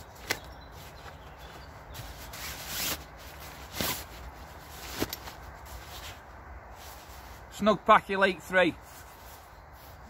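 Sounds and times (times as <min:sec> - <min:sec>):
nylon fabric rustling: 0:00.1 - 0:07.6, 0:08.8 - 0:10.0.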